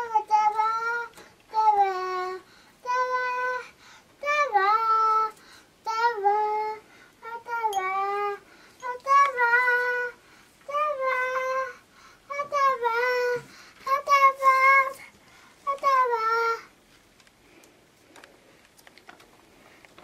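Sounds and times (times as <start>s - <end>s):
toddler girl singing: 0.0s - 16.8s.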